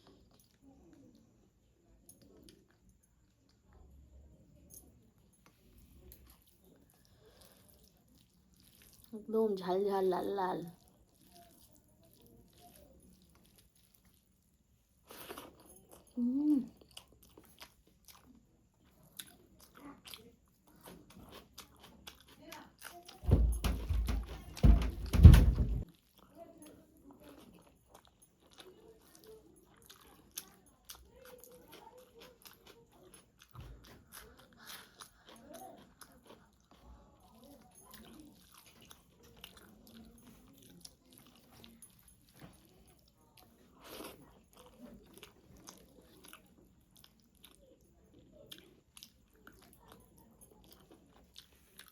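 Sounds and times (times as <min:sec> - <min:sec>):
person chewing food: 0:00.0 - 0:04.0, 0:04.7 - 0:09.2, 0:10.8 - 0:23.2, 0:25.8 - 0:51.9.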